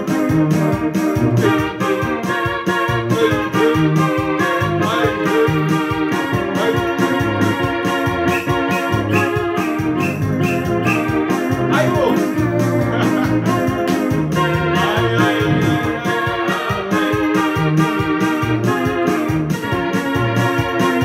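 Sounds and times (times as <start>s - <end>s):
bass line: 0.0s - 21.0s
keyboard playing organ-like chords: 0.0s - 21.0s
steady beat: 0.0s - 21.0s.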